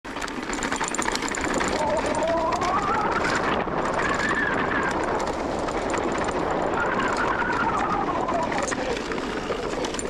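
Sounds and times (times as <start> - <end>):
tyre and wind noise: 0.1 - 10.0.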